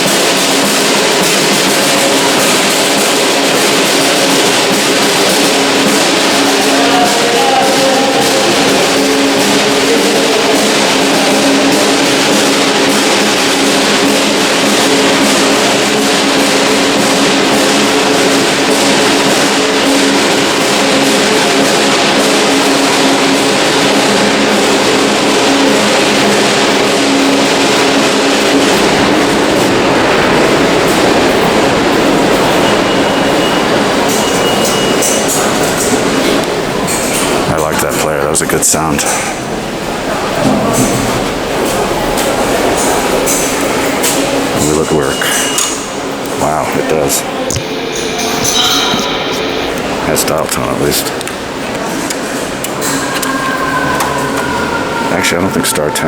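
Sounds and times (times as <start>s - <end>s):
busker guitar music: 0.0s - 53.5s
subway train running: 0.0s - 56.0s.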